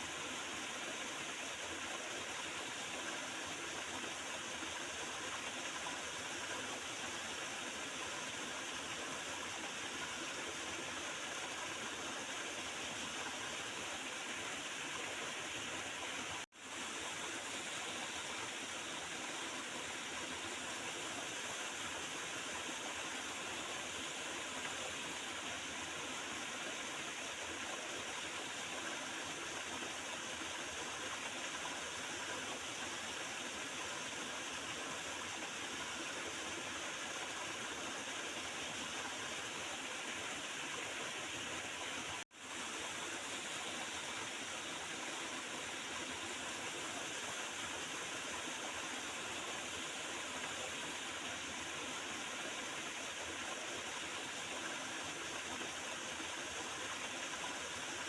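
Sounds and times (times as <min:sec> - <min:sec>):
small river flowing and gurgling: 0:00.0 - 0:58.0.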